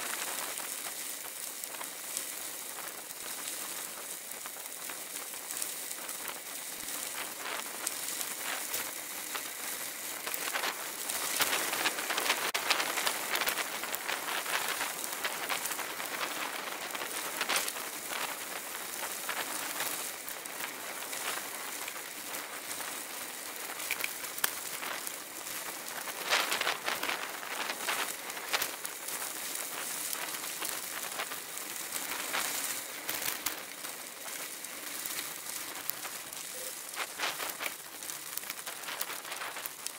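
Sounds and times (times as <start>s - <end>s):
bicycle tyres on gravel: 0.0s - 39.9s.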